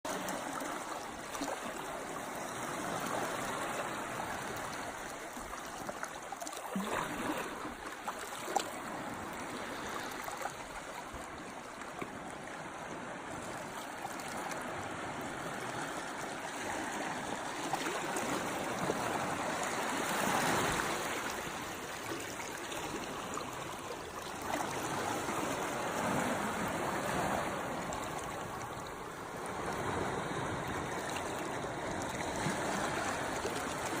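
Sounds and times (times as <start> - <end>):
sea water washing among rocks: 0.1 - 11.4, 13.3 - 34.0.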